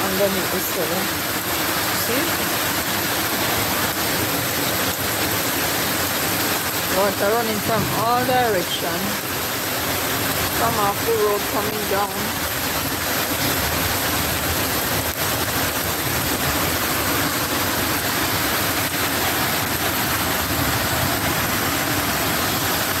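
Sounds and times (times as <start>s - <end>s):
heavy rain on puddles: 0.0s - 23.0s
runoff water running: 0.0s - 23.0s.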